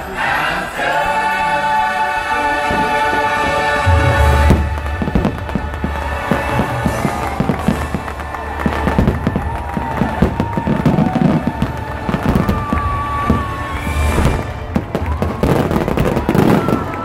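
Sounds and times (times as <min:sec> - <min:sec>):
music playing: 0:00.0 - 0:17.0
fireworks bursting and crackling: 0:02.5 - 0:17.0.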